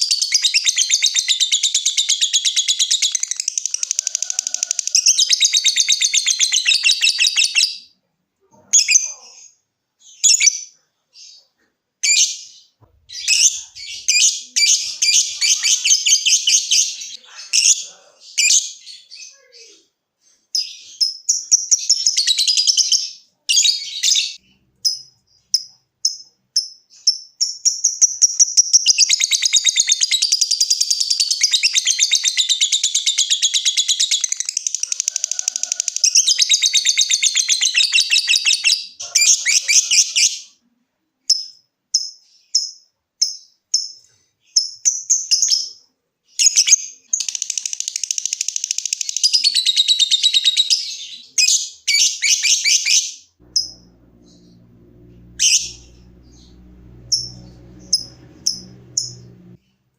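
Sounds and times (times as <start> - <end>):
lovebird chirping and trilling: 0.0 - 7.9, 8.7 - 19.4, 20.5 - 40.5, 41.3 - 59.3.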